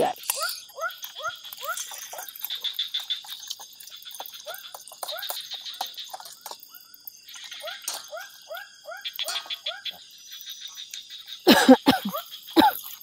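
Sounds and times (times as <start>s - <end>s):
frogs croaking in chorus: 0.0s - 13.0s.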